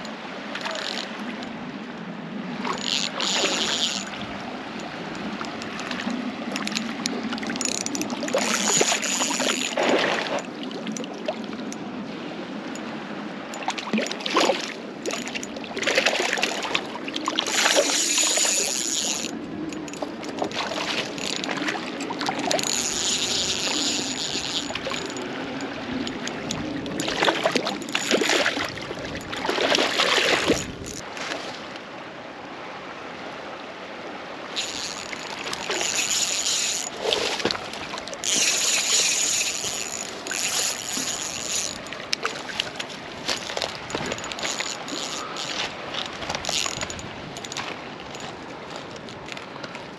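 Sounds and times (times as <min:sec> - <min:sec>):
stream water trickling and splashing: 0:00.0 - 0:49.9.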